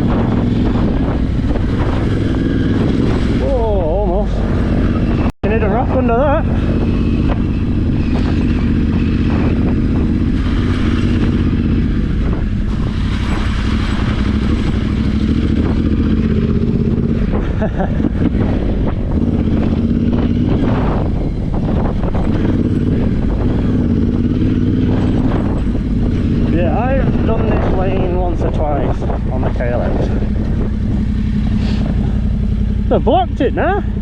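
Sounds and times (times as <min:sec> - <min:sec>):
motorcycle engine at low speed: 0:00.0 - 0:34.0.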